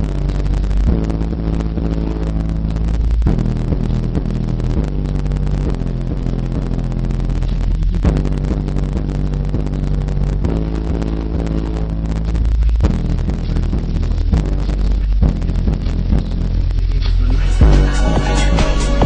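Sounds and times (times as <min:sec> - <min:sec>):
bass-heavy music from subwoofers: 0:00.0 - 0:19.0.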